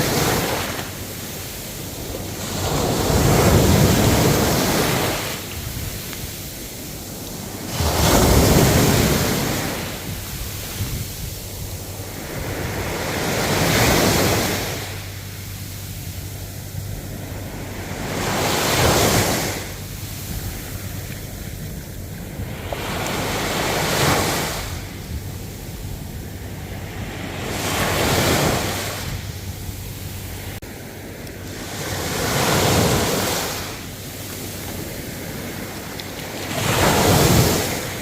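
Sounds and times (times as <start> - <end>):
ocean surf waves: 0.0 - 38.0.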